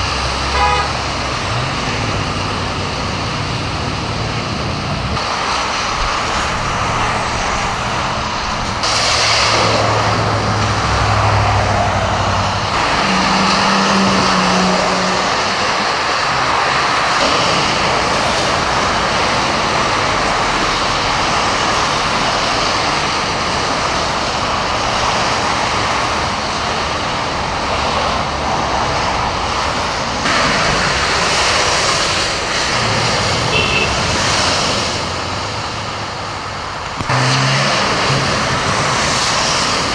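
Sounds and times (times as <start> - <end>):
tyres splashing through water: 0.0 - 39.9
vehicle engines passing: 0.0 - 39.9.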